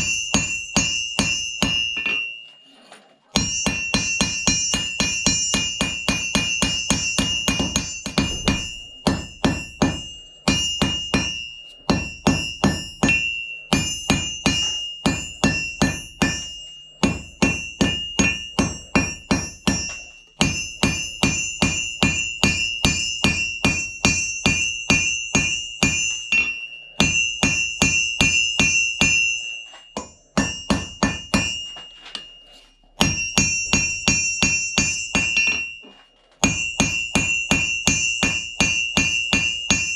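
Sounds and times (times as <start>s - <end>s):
hammer striking anvil: 0.0s - 39.9s.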